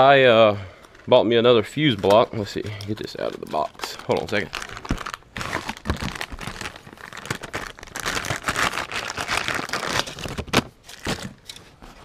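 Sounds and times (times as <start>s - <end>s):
cardboard and plastic packaging crinkling: 1.0s - 12.0s.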